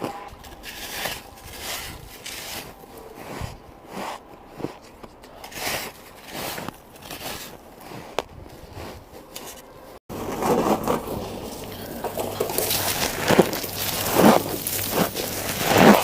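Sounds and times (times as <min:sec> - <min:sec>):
ice crunching being chewed: 0:00.4 - 0:09.7, 0:10.8 - 0:16.0.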